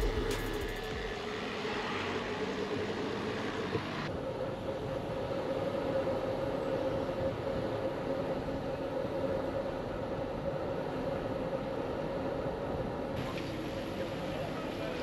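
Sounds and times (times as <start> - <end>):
constant hum: 0.0 - 15.0
wind and road rumble: 0.0 - 15.0.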